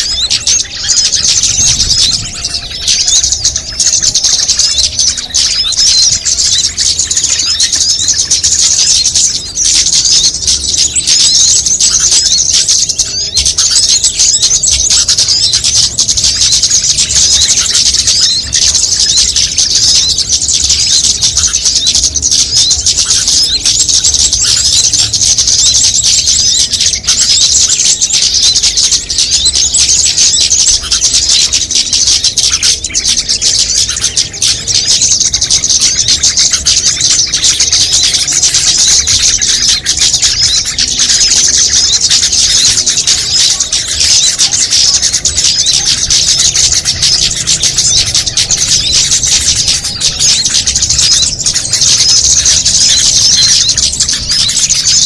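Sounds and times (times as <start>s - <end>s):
small songbirds chirping and twittering: 0.0s - 55.0s.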